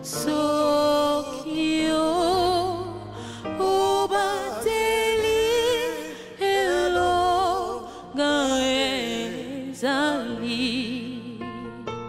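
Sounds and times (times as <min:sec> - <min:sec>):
woman singing gospel: 0:00.0 - 0:11.9.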